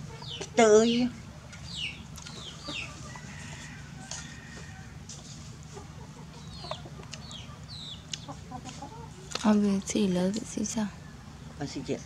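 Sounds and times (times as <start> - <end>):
chickens peeping: 0.0 - 11.8.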